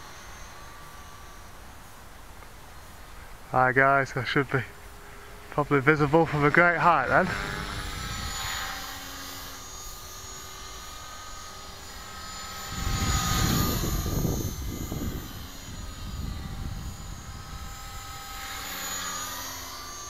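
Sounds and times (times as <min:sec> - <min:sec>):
rc helicopter motor whine: 0:00.0 - 0:20.0.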